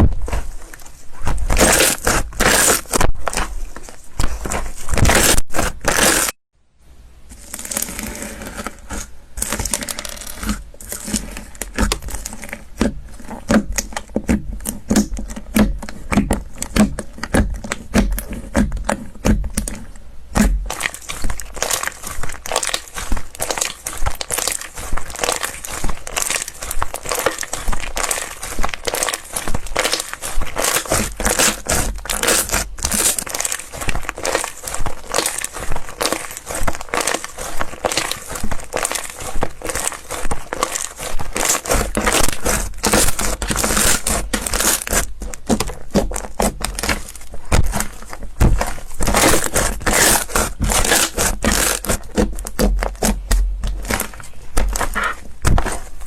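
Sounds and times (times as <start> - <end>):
slime squelching and crackling: 0.0 - 6.4, 7.4 - 56.0.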